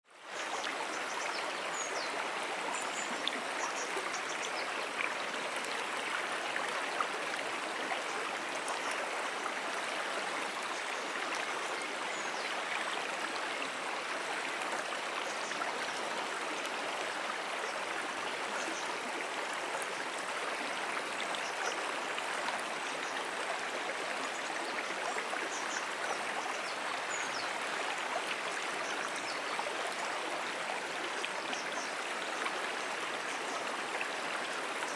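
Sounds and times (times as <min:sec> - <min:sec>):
stream flowing: 0:00.1 - 0:34.9.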